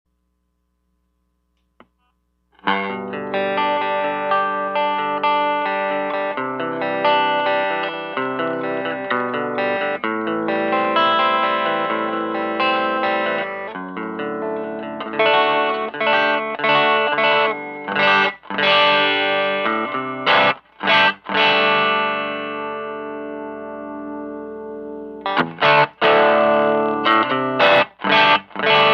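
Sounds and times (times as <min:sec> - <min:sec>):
electric guitar: 0:02.6 - 0:28.9.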